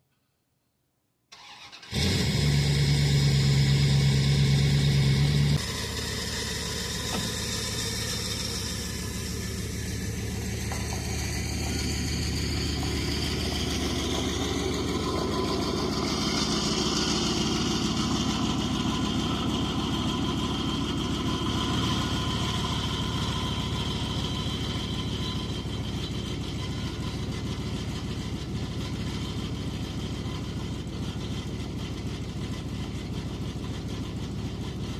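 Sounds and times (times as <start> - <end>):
vehicle engine starting and running: 1.3 - 34.9.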